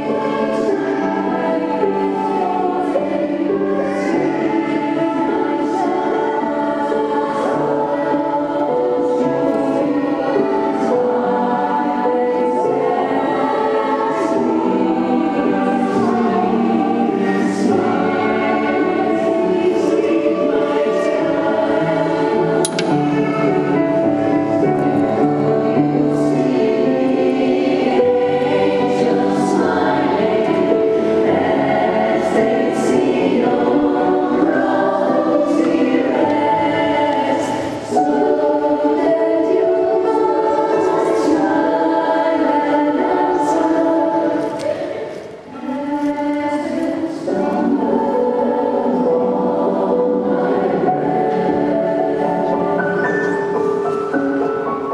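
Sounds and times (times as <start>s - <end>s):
piano accompaniment: 0.0s - 54.9s
women's choir singing: 0.0s - 54.9s.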